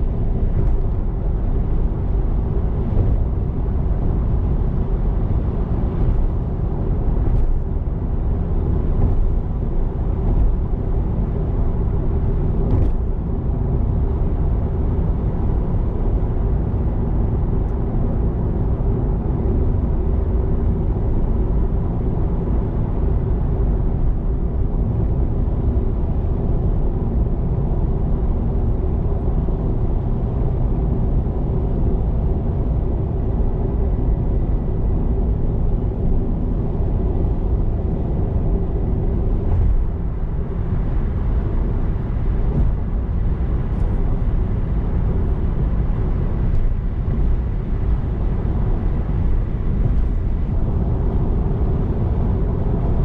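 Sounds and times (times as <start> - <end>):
tyre and road noise in car: 0.0 - 53.0.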